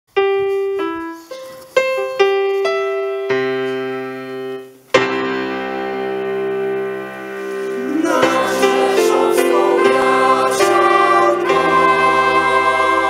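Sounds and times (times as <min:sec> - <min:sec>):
piano playing: 0:00.1 - 0:13.0.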